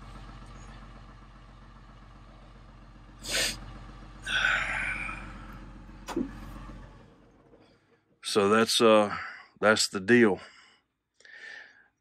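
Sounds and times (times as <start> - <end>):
diesel engine idling: 0.0 - 11.8.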